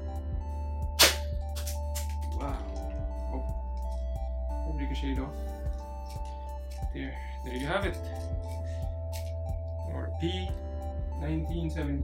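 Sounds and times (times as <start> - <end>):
music with held notes and soft beat: 0.0 - 12.0.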